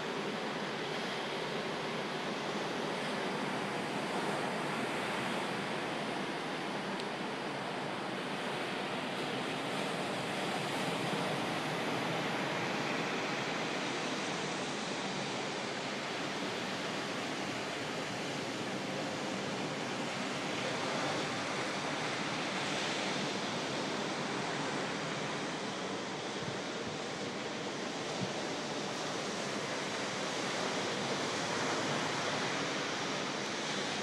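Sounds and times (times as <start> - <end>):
ocean surf breaking: 3.0 - 34.0.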